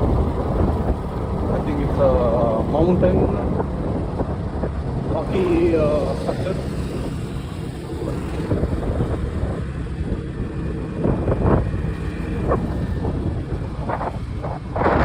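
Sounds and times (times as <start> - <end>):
motorbike engine and road rumble: 0.0 - 15.0
wind buffeting microphone: 0.0 - 15.0.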